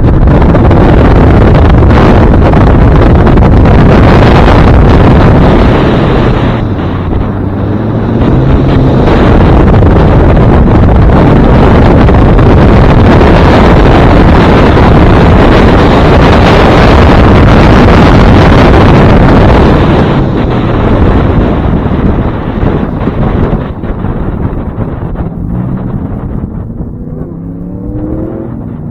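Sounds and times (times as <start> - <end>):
car engine low drone: 0.0 - 28.9
wind buffeting camera microphone: 0.0 - 28.9.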